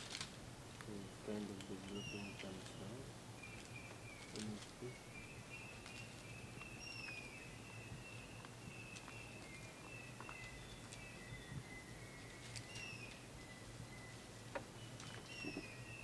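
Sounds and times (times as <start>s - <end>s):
low steady hum: 0.0s - 16.0s
birds calling whistled notes: 0.9s - 16.0s.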